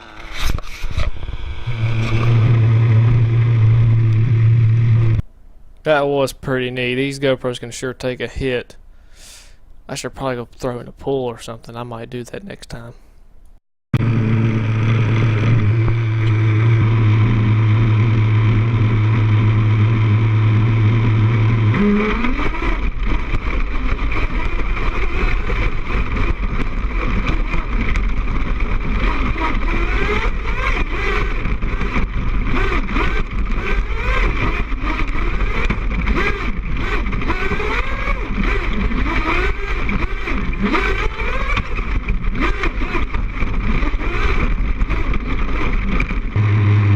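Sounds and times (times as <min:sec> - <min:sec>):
rc truck gas engine revving: 0:00.0 - 0:05.2, 0:09.1 - 0:09.6, 0:14.0 - 0:46.9
rumble of bumps: 0:00.0 - 0:05.3, 0:14.0 - 0:46.9.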